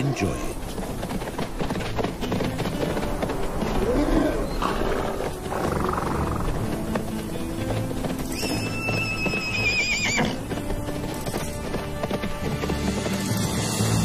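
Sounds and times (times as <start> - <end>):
horses calling: 0.0 - 13.7
background music: 0.0 - 14.0.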